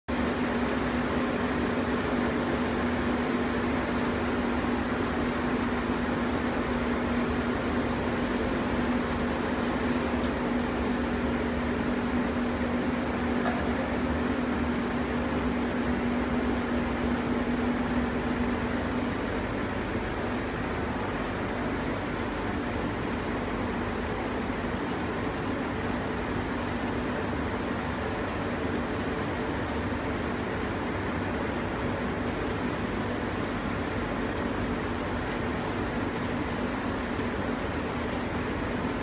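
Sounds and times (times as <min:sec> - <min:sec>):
laser cutter whirring hum: 0:00.1 - 0:39.0.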